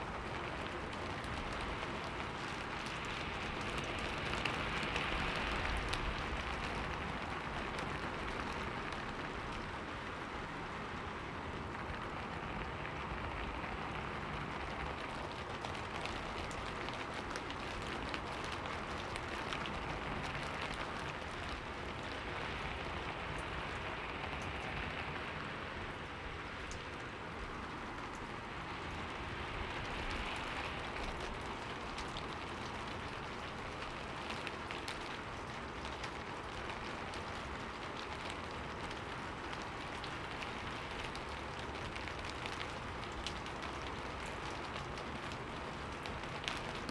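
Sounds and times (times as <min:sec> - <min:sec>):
rain pattering on a window: 0:00.0 - 0:46.9.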